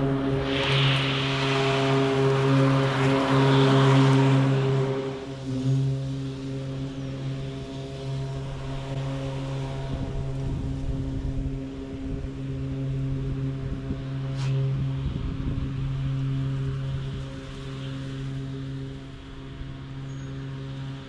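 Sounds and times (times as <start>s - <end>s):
electric mower blade motors humming: 0.0s - 21.0s.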